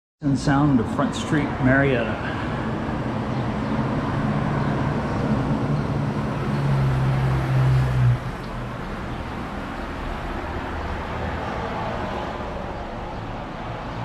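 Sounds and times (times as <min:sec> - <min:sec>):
steady road noise: 0:00.2 - 0:14.0
vehicle engine hum: 0:00.8 - 0:14.0.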